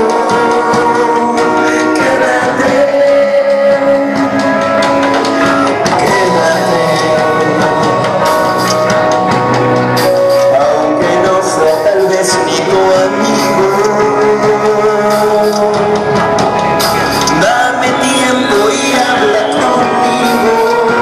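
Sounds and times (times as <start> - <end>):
bass guitar: 0.0 - 21.0
drum kit: 0.0 - 21.0
electric guitar: 0.0 - 21.0
man singing: 0.0 - 21.0.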